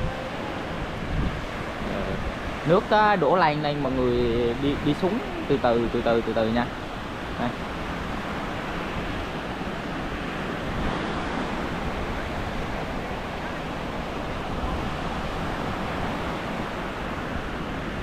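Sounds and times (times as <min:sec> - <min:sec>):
sea waves washing ashore: 0:00.0 - 0:18.0
wind buffeting microphone: 0:00.0 - 0:18.0.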